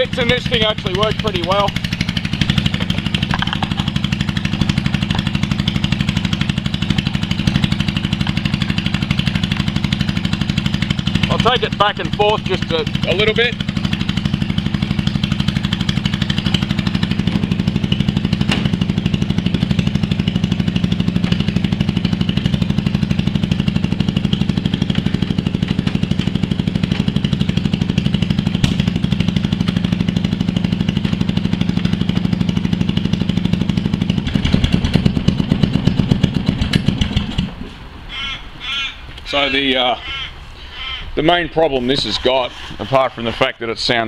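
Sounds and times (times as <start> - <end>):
loud unmuffled mower engine: 0.0 - 37.8.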